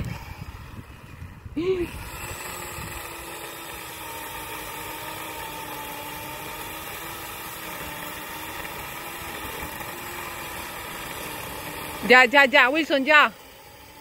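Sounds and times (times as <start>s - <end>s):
electric saw cutting wood: 0.0s - 14.0s.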